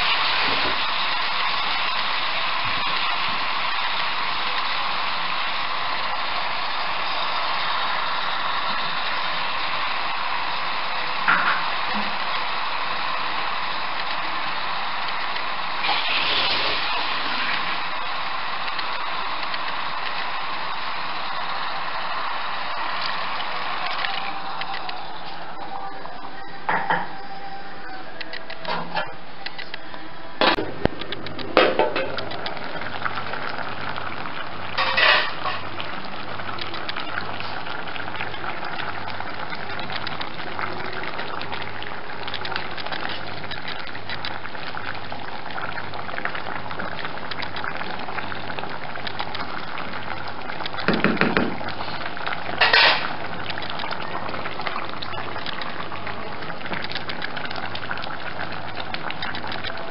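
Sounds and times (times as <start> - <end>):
broth bubbling and sizzling in a pot: 0.0 - 59.9.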